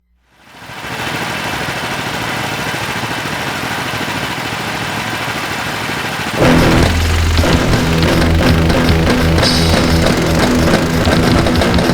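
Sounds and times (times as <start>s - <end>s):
kart engines droning: 0.3s - 11.9s.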